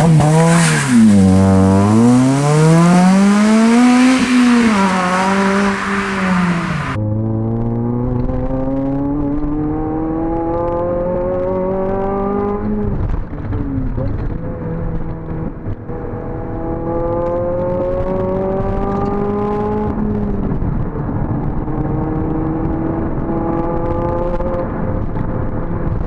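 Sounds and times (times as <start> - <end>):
car engine accelerating through gears: 0.0 - 26.0.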